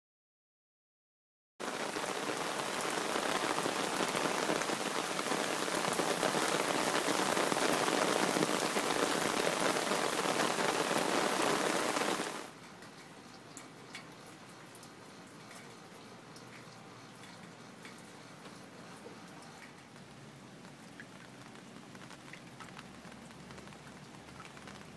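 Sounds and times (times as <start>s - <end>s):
rain falling: 1.6s - 24.9s
single raindrops: 1.6s - 24.9s.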